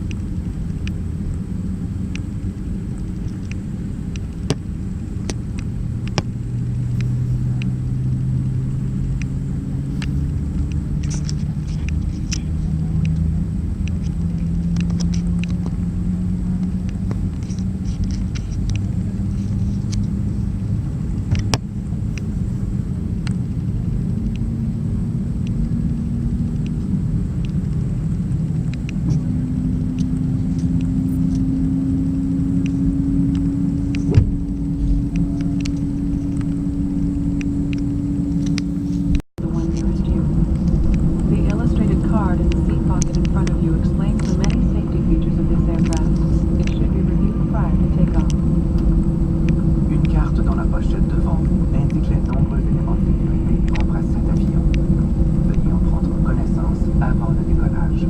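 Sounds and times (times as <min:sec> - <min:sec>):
airplane engines rumbling: 0:00.0 - 0:58.0.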